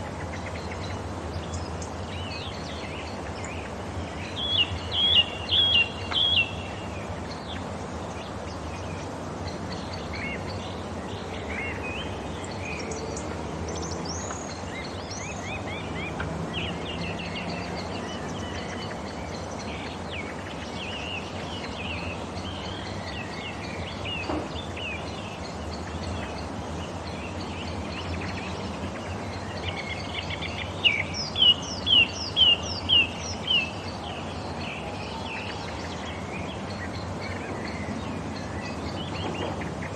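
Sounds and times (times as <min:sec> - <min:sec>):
steady low background noise: 0:00.0 - 0:39.9
wild birds chirping: 0:00.0 - 0:39.9.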